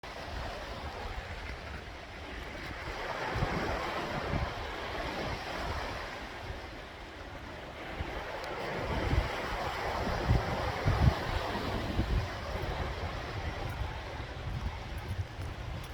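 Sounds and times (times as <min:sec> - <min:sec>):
sea waves washing in: 0:00.0 - 0:15.9
wind buffeting microphone: 0:00.0 - 0:15.9.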